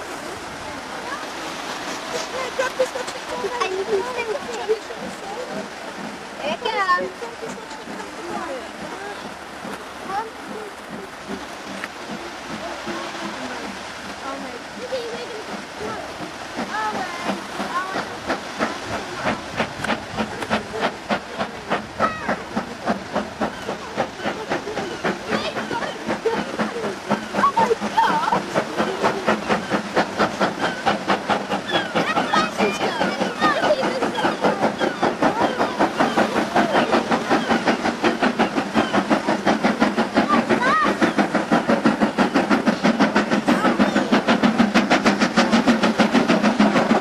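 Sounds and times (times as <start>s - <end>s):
steam hissing: 0.0s - 47.0s
steam locomotive exhaust chuffs: 0.0s - 47.0s.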